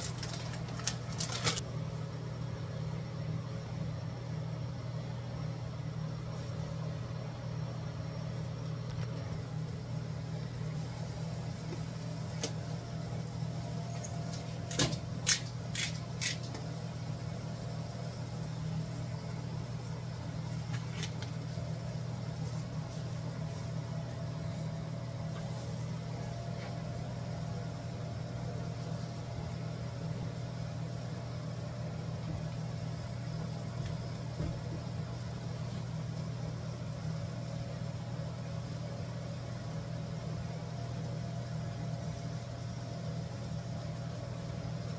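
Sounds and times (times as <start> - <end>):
kitchen vent fan humming: 0.0 - 44.9.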